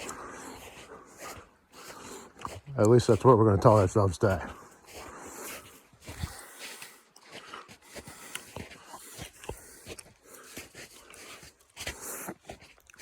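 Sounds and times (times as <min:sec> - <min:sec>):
man breathing heavily: 0:00.0 - 0:02.7, 0:04.4 - 0:12.6.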